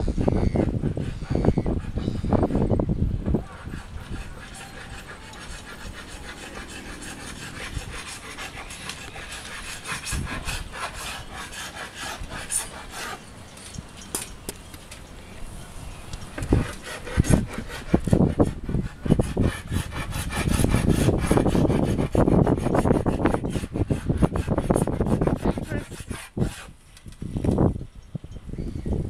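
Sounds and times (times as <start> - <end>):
sandpaper rasping on boat hull: 0.1 - 13.3, 16.3 - 26.9.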